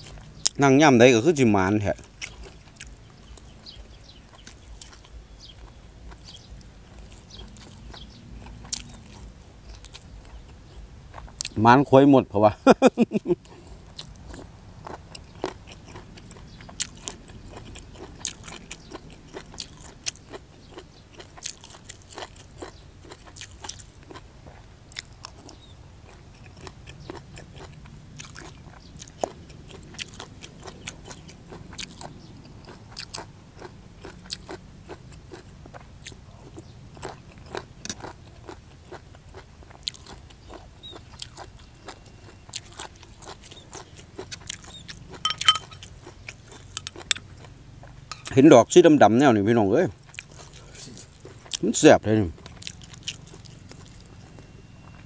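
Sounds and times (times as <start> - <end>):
chewing crunchy mushrooms: 0.0 - 55.0.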